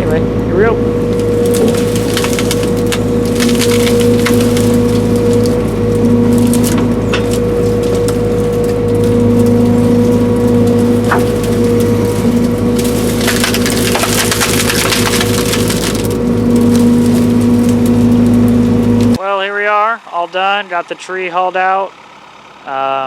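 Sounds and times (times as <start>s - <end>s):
crunching and scraping of wood: 0.0s - 19.2s
excavator diesel engine running: 0.0s - 23.0s.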